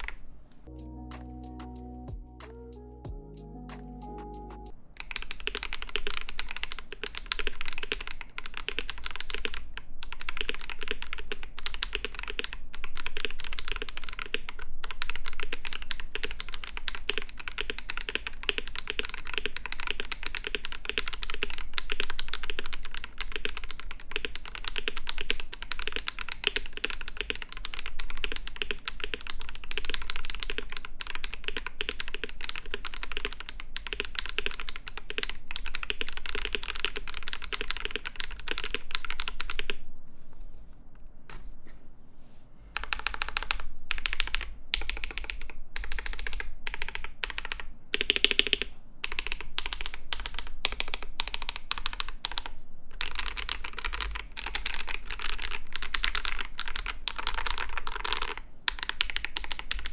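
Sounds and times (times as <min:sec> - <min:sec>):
mechanical keyboard typing: 0:00.0 - 0:00.2, 0:05.0 - 0:39.8, 0:42.8 - 0:59.9.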